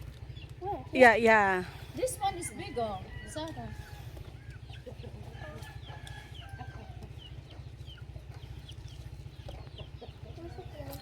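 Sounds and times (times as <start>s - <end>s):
chickens clucking: 1.7s - 11.0s.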